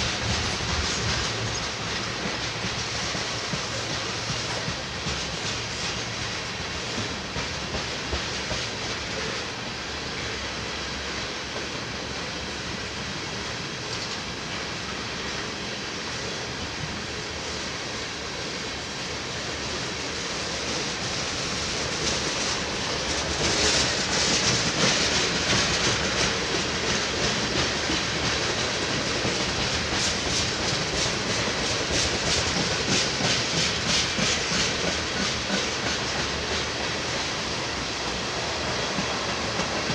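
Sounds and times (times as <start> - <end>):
train wheels clicking on rails: 0.0 - 39.9.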